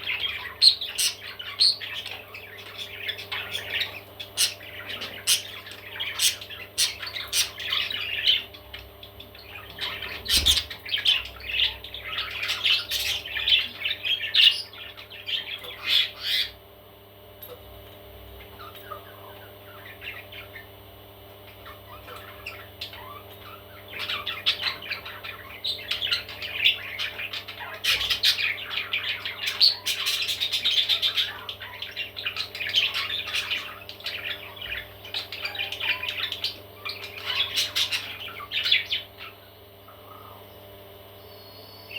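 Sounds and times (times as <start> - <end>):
baby parrots squawking: 0.0 - 16.6, 21.5 - 40.5.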